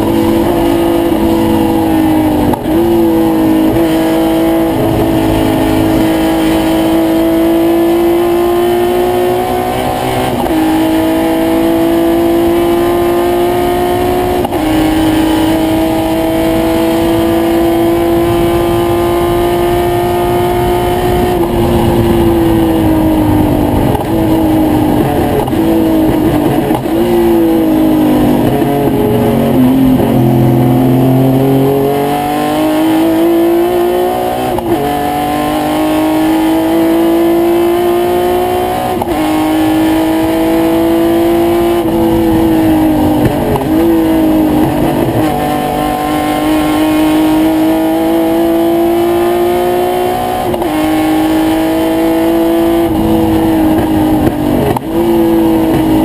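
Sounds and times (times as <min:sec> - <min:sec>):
race engine at full throttle: 0:00.0 - 0:56.0.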